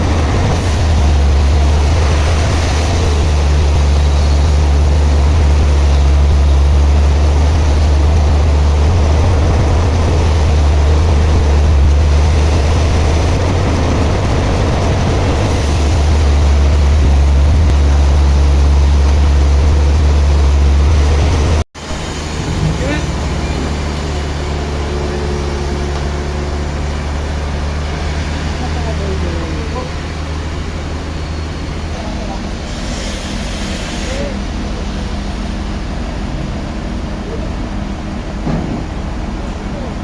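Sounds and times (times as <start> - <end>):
heavy machinery humming: 0.0 - 40.0.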